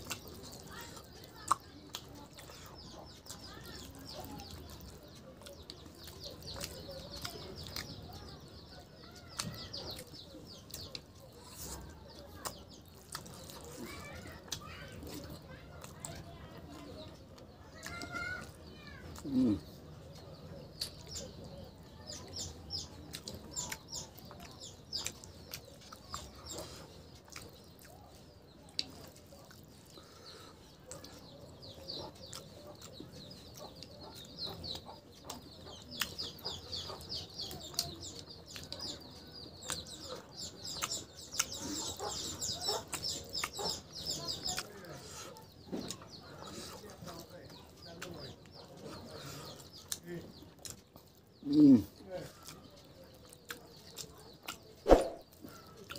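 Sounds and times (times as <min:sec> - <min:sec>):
birds chirping: 0:00.0 - 0:55.9
chewing and lip-smacking: 0:00.0 - 0:55.9
wet eating by hand: 0:00.0 - 0:55.9.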